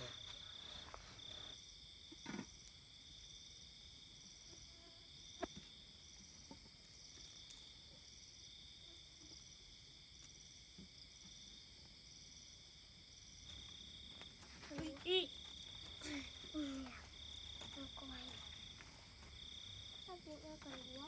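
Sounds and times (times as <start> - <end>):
crickets trilling and chirping: 0.0 - 21.0.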